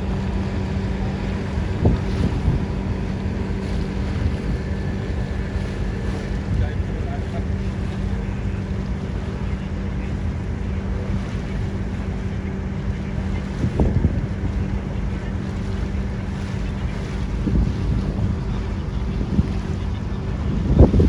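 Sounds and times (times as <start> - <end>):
ferry engine drone: 0.0 - 21.0
wind on microphone: 0.0 - 21.0.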